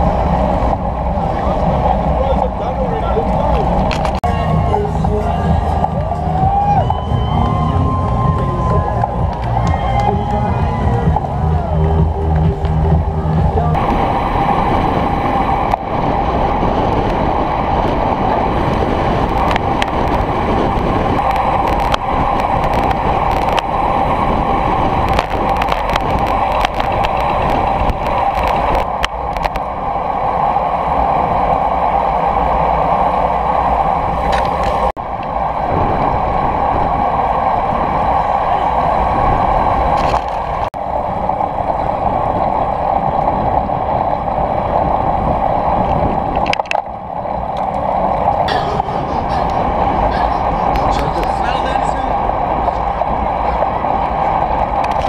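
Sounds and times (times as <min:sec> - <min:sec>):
bicycle road noise: 0:00.0 - 0:55.0
wind on microphone: 0:00.0 - 0:55.0.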